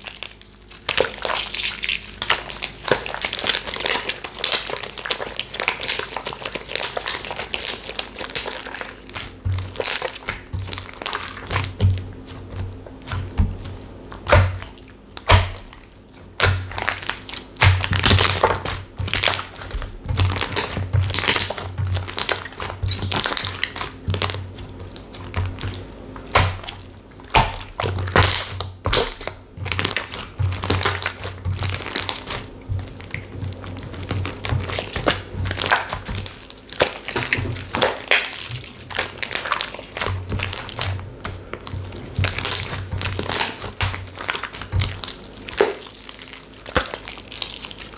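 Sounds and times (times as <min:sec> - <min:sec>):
slime crackling and clicking: 0:00.0 - 0:47.9.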